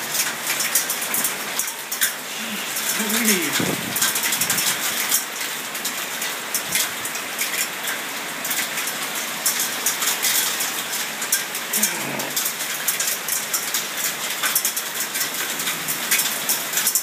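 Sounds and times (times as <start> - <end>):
heavy rain rushing: 0.0 - 17.0
raindrops ticking on surfaces: 0.0 - 17.0.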